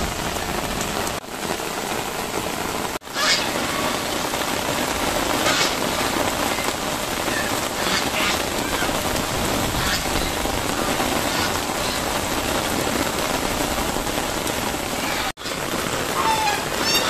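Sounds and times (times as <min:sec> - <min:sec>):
heavy rain on pavement and plants: 0:00.0 - 0:17.0.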